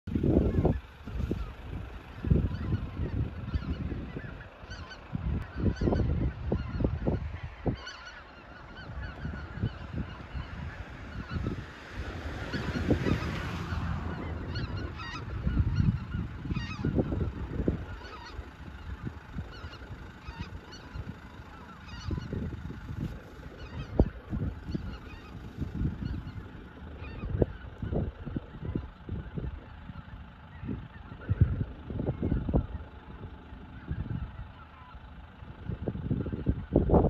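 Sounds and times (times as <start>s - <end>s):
low rumbling bursts: 0.0s - 37.0s
geese honking: 0.1s - 37.0s.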